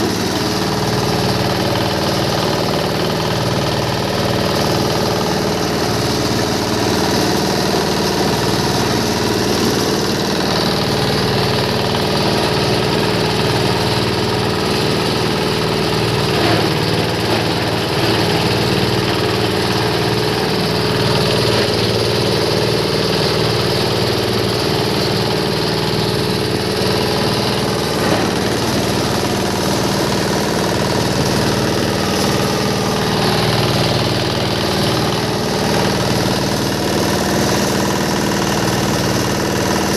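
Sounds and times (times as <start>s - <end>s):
shredder motor hum: 0.0s - 39.9s.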